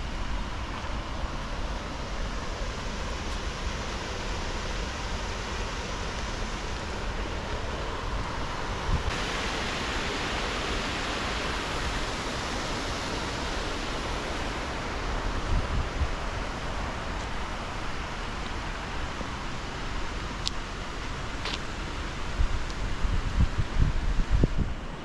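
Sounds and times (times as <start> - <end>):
river water spilling over weir: 0.0 - 25.0.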